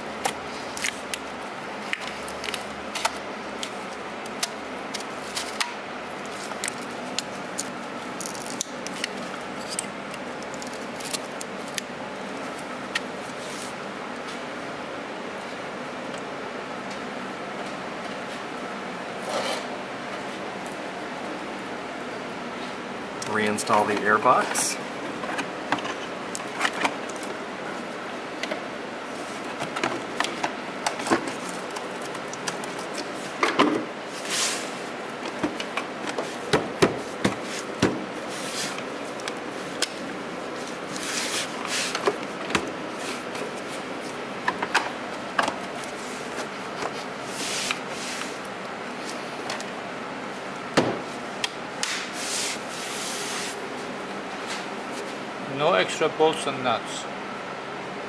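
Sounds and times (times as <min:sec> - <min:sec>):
steady background noise: 0:00.0 - 0:58.0.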